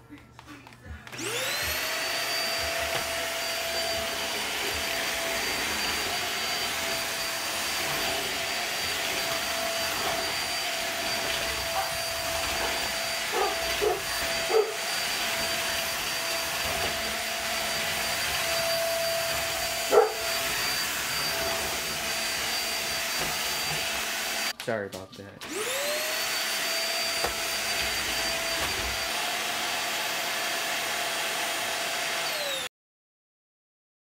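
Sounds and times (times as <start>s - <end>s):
vacuum cleaner running: 0.0s - 24.6s, 25.4s - 32.7s.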